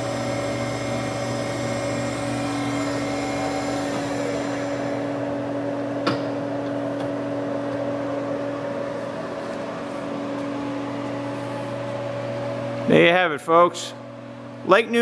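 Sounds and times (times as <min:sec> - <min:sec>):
lathe humming: 0:00.0 - 0:13.2.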